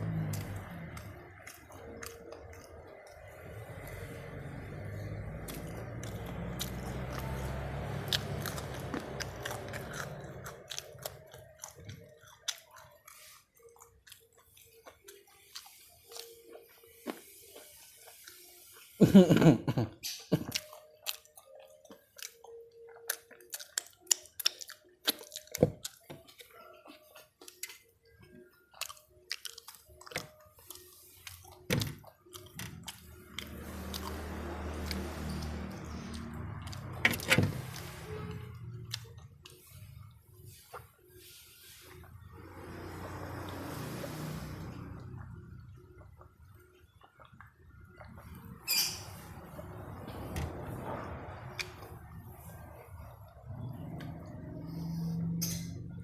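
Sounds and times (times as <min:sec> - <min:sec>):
person chewing and crunching food: 0:00.0 - 0:56.0.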